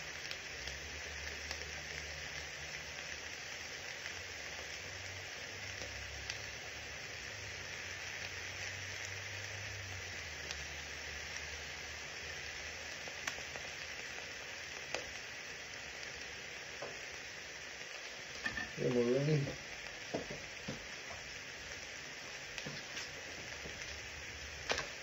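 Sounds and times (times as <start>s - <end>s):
food sizzling in skillet: 0.0s - 25.0s.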